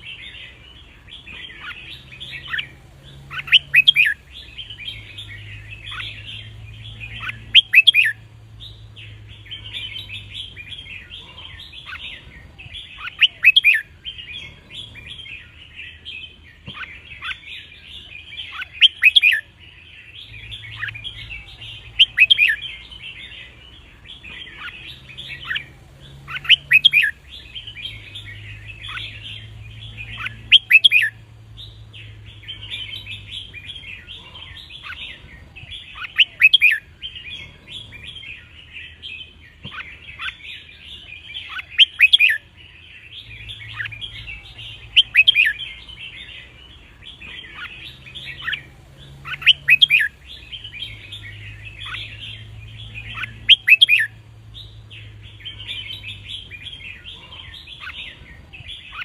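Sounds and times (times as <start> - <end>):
bird twittering and whistling: 0.0 - 59.0.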